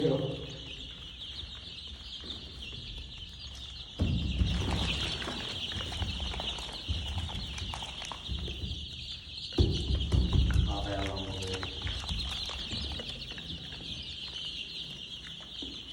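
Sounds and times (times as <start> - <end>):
chicks peeping: 0.0 - 15.9.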